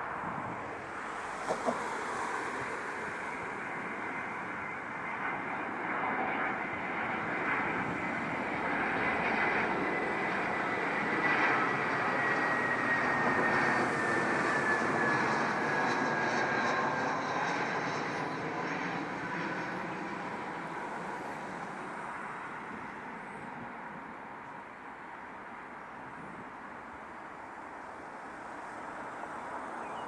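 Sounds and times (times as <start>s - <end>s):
high jet whine: 0.0s - 30.0s
jet airliner engine noise: 0.0s - 30.0s.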